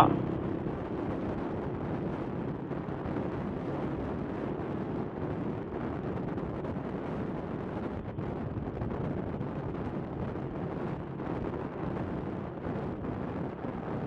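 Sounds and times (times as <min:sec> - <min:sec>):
engine and road rumble: 0:00.0 - 0:14.0
wind buffeting microphone: 0:00.0 - 0:14.0.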